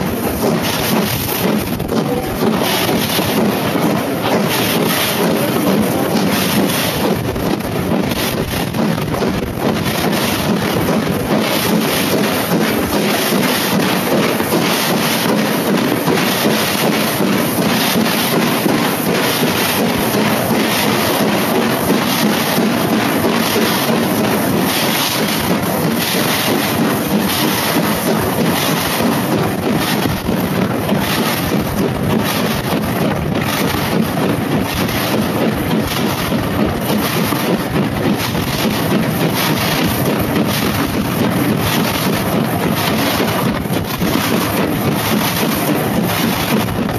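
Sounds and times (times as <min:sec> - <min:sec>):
steam locomotive exhaust beating: 0:00.0 - 0:46.9
train rumbling on rails: 0:00.0 - 0:46.9
wind buffeting microphone: 0:00.0 - 0:46.9.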